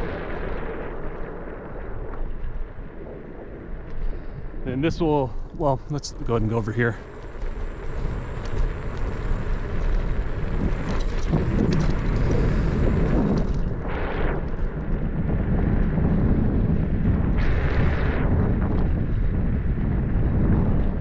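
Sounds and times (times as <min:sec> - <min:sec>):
road and wind rumble: 0:00.0 - 0:21.0.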